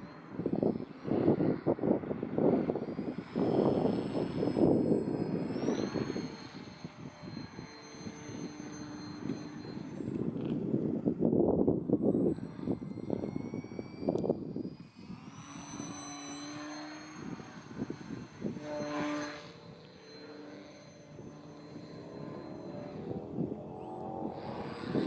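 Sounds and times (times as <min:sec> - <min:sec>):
electric model plane motor whine: 0:00.0 - 0:25.0
wind buffeting microphone: 0:00.3 - 0:15.8, 0:17.2 - 0:19.8, 0:21.1 - 0:25.0.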